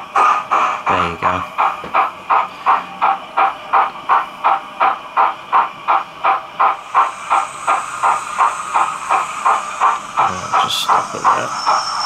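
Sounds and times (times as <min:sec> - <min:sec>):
model train steam chuffs: 0:00.0 - 0:12.0
steam hiss: 0:00.0 - 0:12.0.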